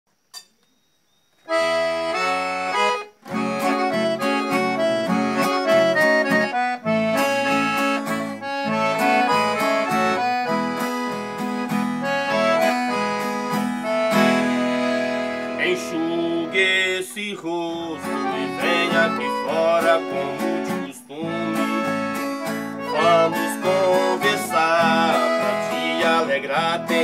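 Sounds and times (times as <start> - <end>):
acoustic guitar accompaniment: 1.3 - 27.0
piano accordion melody: 1.5 - 27.0.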